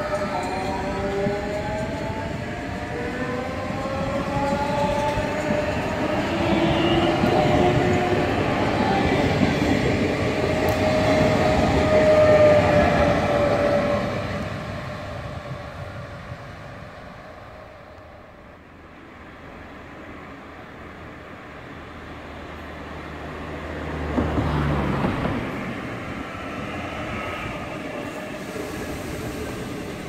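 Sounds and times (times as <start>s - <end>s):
rumble of wheels on rail: 0.0s - 30.0s.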